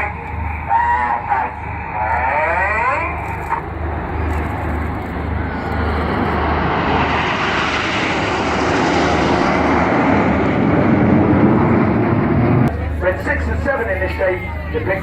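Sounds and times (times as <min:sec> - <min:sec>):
jets flying past: 0:00.0 - 0:12.7.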